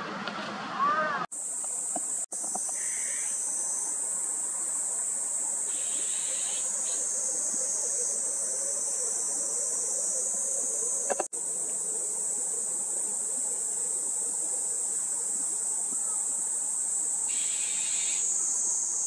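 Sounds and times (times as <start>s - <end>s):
cicadas droning: 0.8s - 19.0s.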